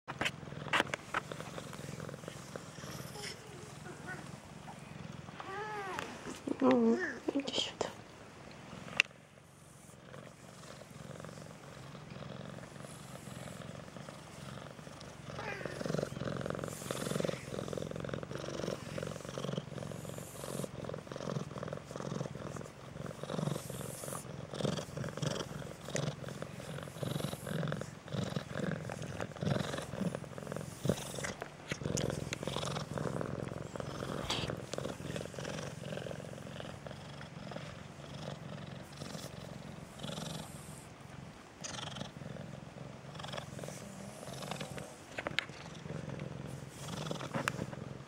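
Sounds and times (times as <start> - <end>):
cat purring: 0.0 - 48.0.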